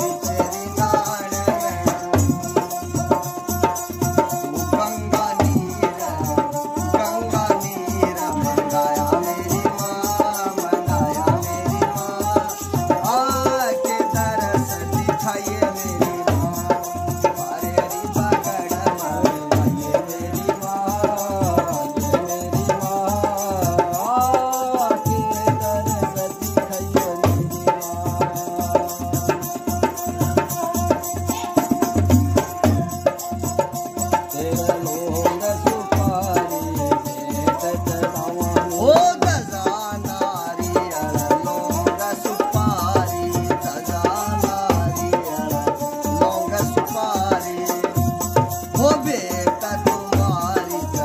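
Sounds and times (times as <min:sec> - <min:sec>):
hand drum rhythm: 0:00.0 - 0:51.0.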